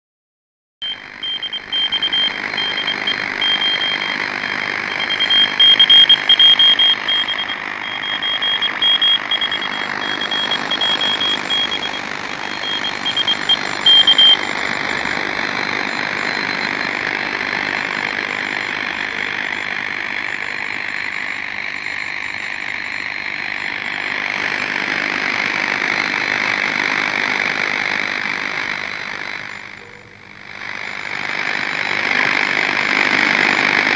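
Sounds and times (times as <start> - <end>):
morse code tone: 0.8 - 24.7, 28.7 - 33.9
shortwave receiver hiss: 0.8 - 33.9.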